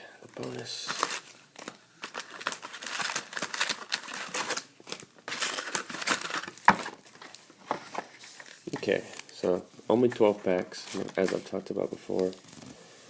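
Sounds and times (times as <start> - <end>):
card packaging crinkling: 0.4 - 9.5, 10.8 - 12.7.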